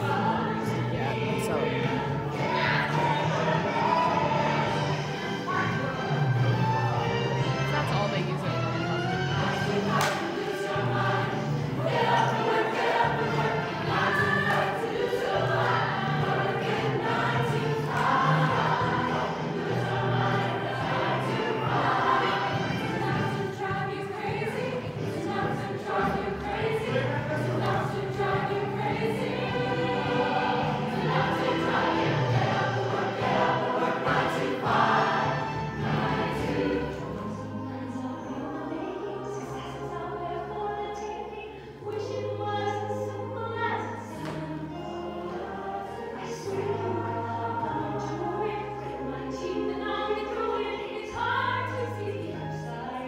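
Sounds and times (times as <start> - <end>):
group of voices singing: 0.0 - 53.0
instrumental backing music: 0.0 - 53.0.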